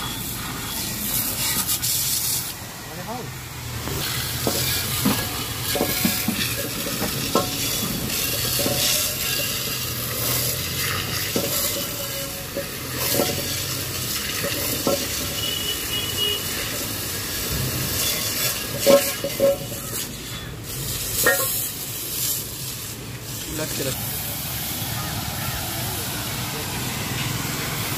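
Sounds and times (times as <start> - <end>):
water jet hissing and splashing: 0.0 - 27.9.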